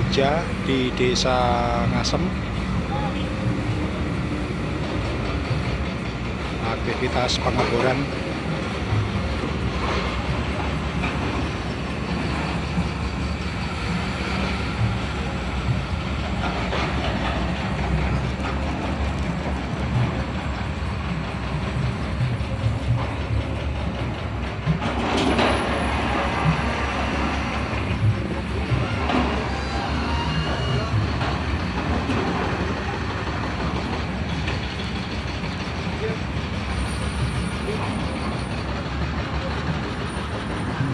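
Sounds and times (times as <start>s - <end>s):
heavy drilling rig rumbling: 0.0s - 40.9s.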